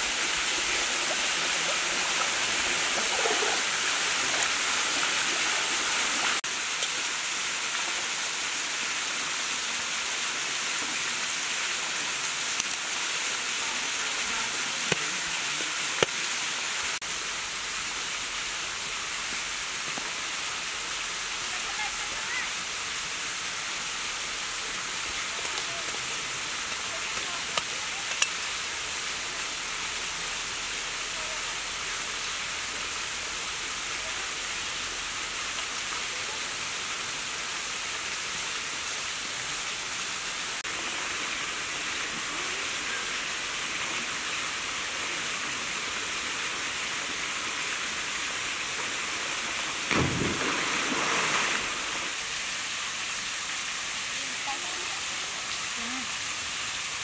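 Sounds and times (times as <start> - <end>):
rustle: 0.0 - 57.0
small waterfall pouring into pool: 0.0 - 57.0.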